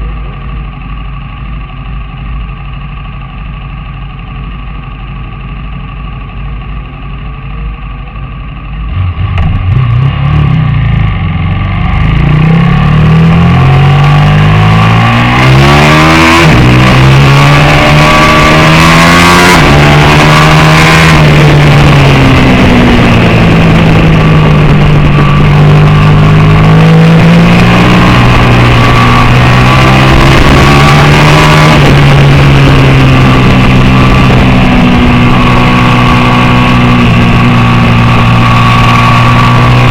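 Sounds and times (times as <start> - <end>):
racing motorcycle engine accelerating: 4.3 - 39.9.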